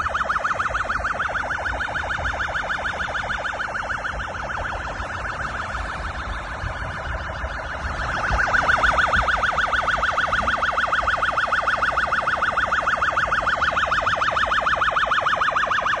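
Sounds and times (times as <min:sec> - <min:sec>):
electronic siren wailing: 0:00.0 - 0:16.0
rushing floodwater: 0:00.0 - 0:16.0.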